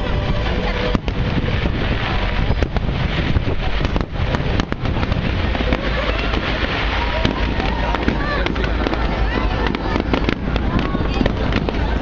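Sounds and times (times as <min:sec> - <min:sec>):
constant rumbling wash: 0:00.0 - 0:12.0
fireworks bangs and crackles: 0:00.0 - 0:12.0.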